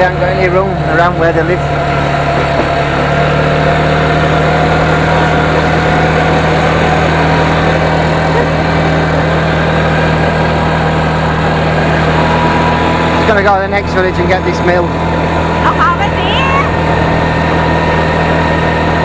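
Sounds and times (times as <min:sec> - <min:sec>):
vehicle engine running steadily: 0:00.0 - 0:19.0.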